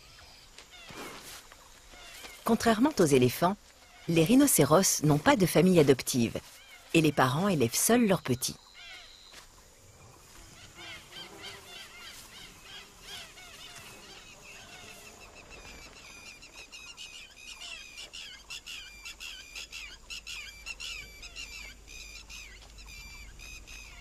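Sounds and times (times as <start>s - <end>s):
wild birds chirping: 0.0s - 24.0s.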